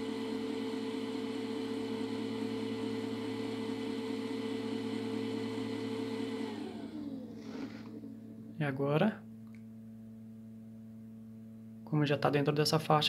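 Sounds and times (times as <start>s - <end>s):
small cooling fan spinning down: 0.0s - 11.4s.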